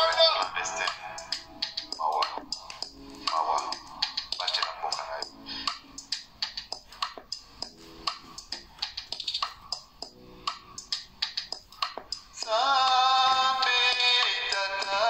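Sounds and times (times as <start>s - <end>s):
background music with sharp clicks: 0.0s - 15.0s.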